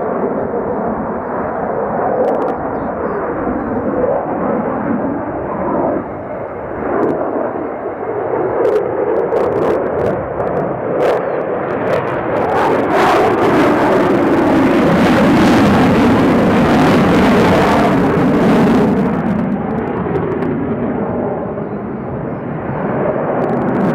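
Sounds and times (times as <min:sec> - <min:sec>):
fighter jet engines roaring: 0:00.0 - 0:23.9.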